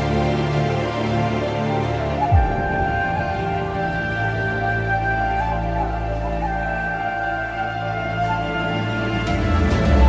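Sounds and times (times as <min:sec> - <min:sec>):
soft orchestral music: 0:00.0 - 0:10.0.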